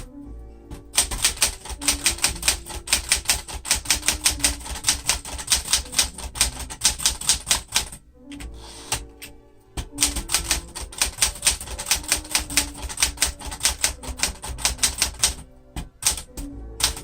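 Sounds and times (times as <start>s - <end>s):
typewriter keys clacking: 1.0s - 8.0s, 9.8s - 15.4s, 16.0s - 17.0s.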